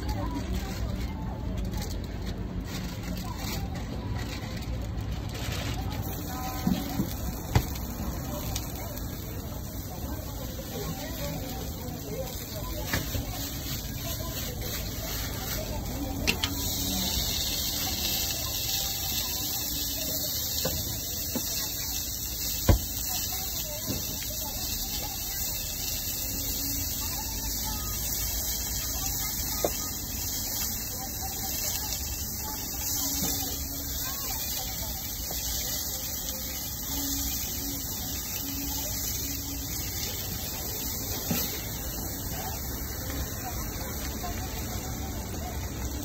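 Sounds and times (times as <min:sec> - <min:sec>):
meat sizzling on a griddle: 0:00.0 - 0:46.0.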